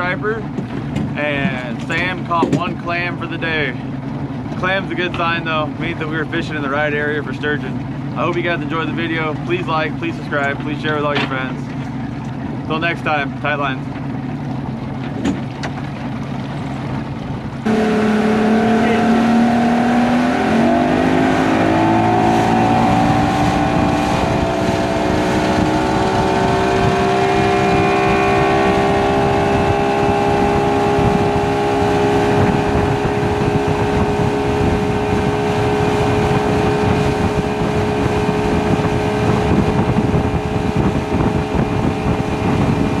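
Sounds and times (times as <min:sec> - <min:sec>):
outboard motor accelerating: 0:00.0 - 0:43.0.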